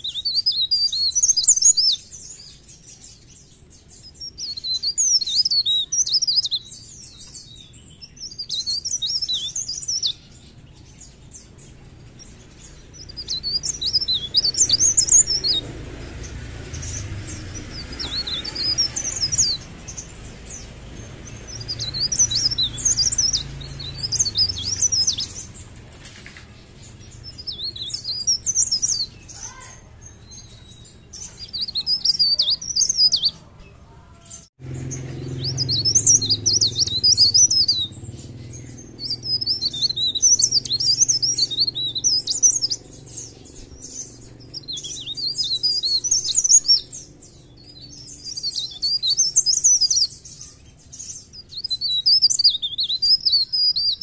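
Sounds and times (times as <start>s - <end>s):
bird twittering: 0.0s - 33.5s, 34.1s - 54.0s.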